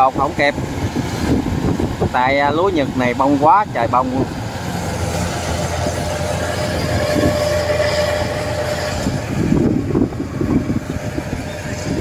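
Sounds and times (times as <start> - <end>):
harvester mechanical rumble: 0.0 - 12.0.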